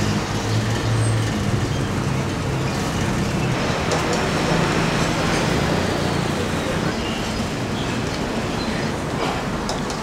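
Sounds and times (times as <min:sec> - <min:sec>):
road traffic rushing: 0:00.0 - 0:10.0.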